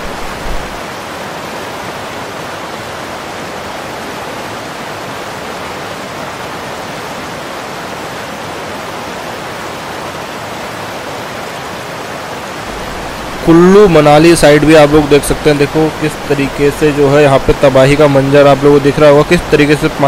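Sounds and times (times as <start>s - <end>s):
river rushing roar: 0.0s - 20.0s.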